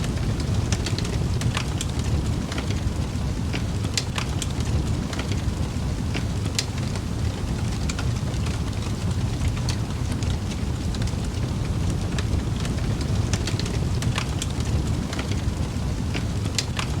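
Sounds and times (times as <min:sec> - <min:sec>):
burning wood crackling: 0:00.0 - 0:17.0
low rumble of flames: 0:00.0 - 0:17.0.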